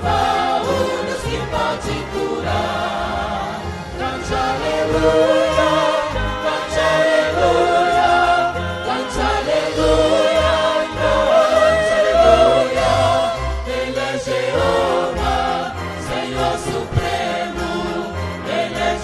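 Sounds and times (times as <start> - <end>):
choir singing gospel: 0.0 - 19.0.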